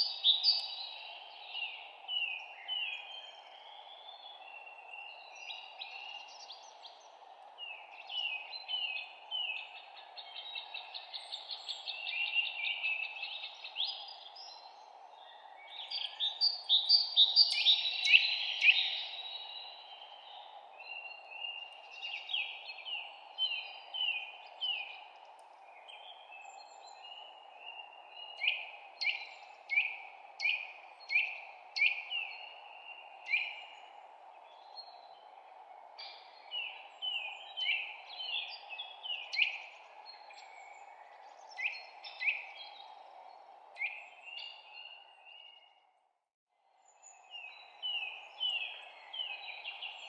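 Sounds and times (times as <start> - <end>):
songbirds chirping: 0.0 - 50.0.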